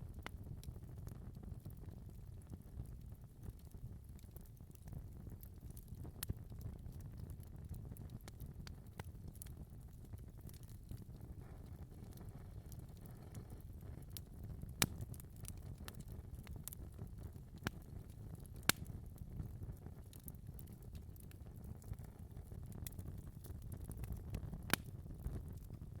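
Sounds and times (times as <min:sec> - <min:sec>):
sharp pops and snaps of fire: 0:00.0 - 0:26.0
wood fire crackling: 0:00.0 - 0:26.0.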